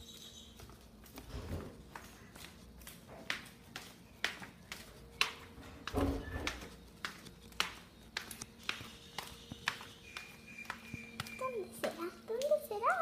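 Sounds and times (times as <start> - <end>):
footsteps on tiled stairs: 0.0 - 13.0.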